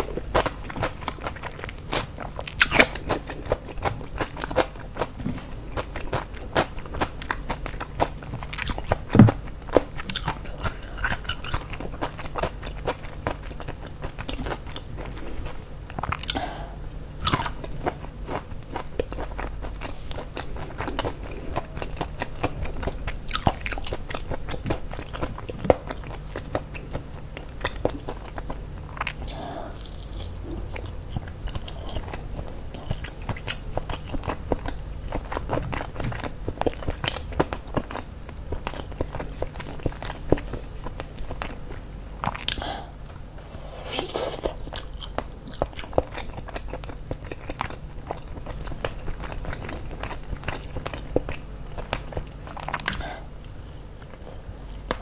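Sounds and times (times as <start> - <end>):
chewing and crunching crispy food: 0.0 - 55.0
low steady hum: 0.0 - 55.0.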